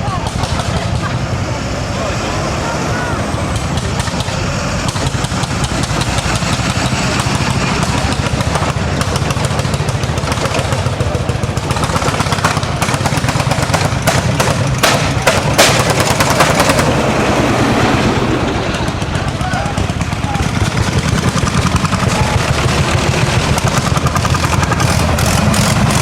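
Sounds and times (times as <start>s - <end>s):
exhaust bangs: 0.0s - 26.0s
tractor engine chugging: 0.0s - 26.0s.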